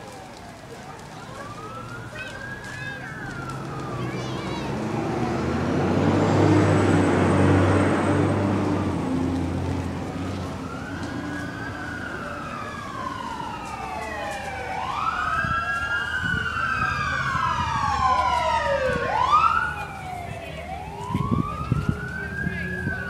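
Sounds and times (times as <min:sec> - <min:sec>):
emergency sirens wailing: 0:00.0 - 0:23.0.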